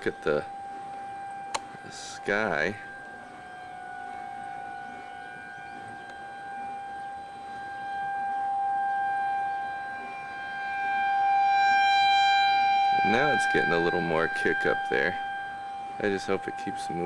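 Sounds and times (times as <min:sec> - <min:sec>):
tornado warning siren: 0:00.0 - 0:17.0.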